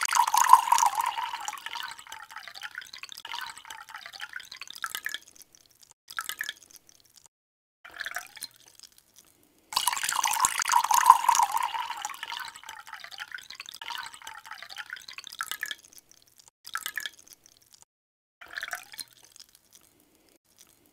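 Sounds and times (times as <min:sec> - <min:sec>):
liquid dripping: 0:00.0 - 0:07.3, 0:08.1 - 0:17.8, 0:18.5 - 0:20.9
liquid pouring into a container: 0:00.0 - 0:07.3, 0:09.8 - 0:17.8, 0:18.4 - 0:20.9.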